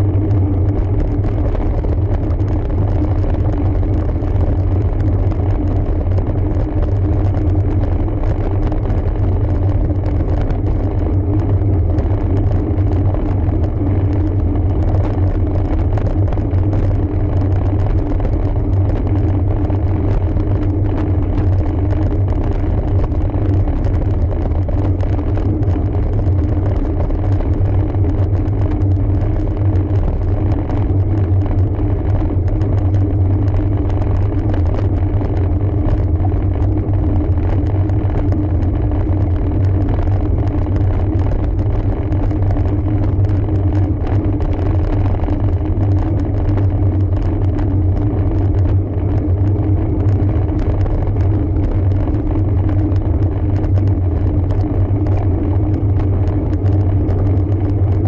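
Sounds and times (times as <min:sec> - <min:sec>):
constant hum: 0:00.0 - 0:58.0
wind and tyre rumble: 0:00.0 - 0:58.0.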